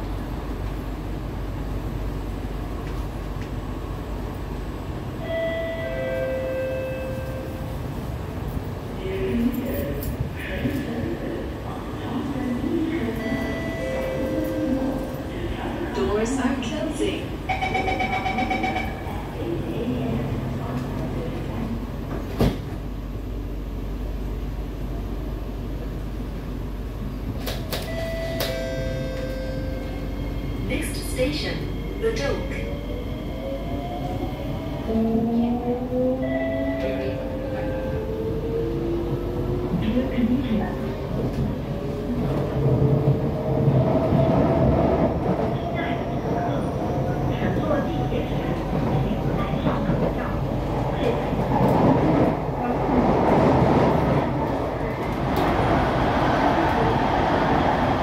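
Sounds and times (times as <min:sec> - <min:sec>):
metro train humming: 0:00.0 - 0:58.0.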